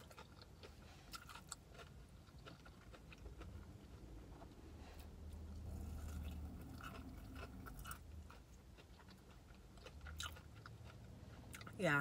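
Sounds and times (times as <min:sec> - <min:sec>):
person chewing: 0:00.0 - 0:11.8
low steady hum: 0:00.0 - 0:12.0.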